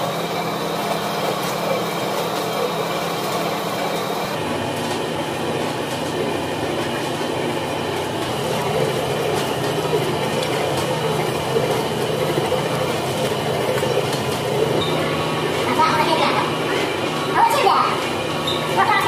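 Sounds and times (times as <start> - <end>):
dough mixer motor hum: 0.0 - 19.0.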